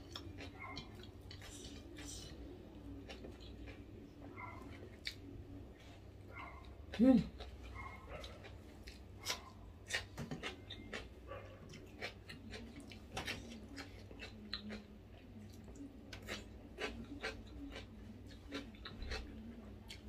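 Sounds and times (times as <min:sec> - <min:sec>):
person chewing food crunching: 0:00.0 - 0:20.0.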